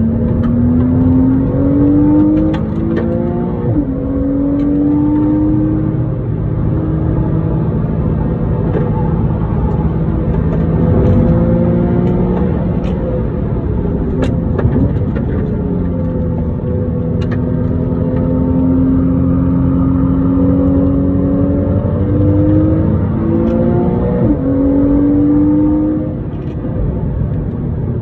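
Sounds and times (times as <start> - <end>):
car engine revving: 0.0 - 27.8.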